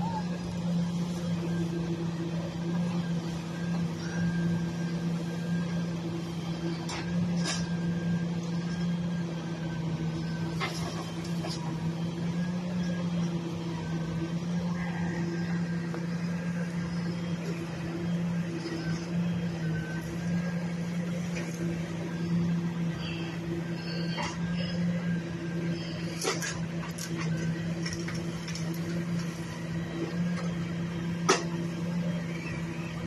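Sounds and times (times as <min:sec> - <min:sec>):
garbage truck humming: 0:00.0 - 0:33.0.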